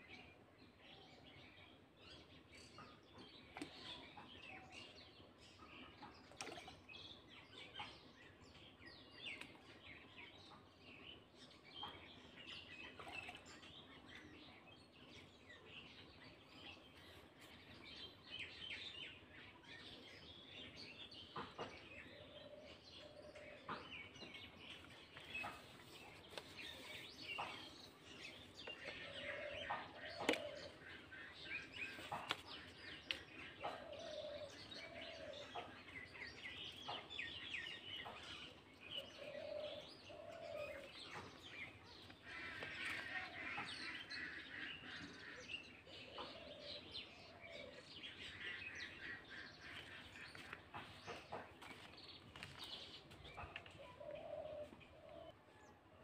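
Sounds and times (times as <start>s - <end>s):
birds chirping and twittering: 0.0s - 56.0s.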